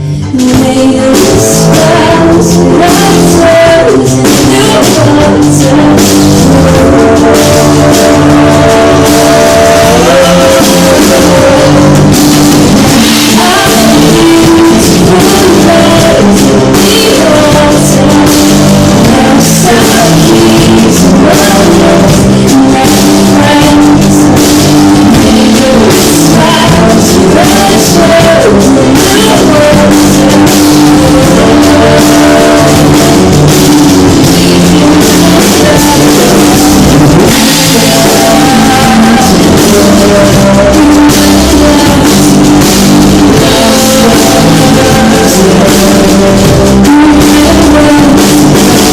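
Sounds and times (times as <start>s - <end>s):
drum kit: 0.0s - 48.9s
guitar: 0.0s - 48.9s
person singing: 0.0s - 48.9s.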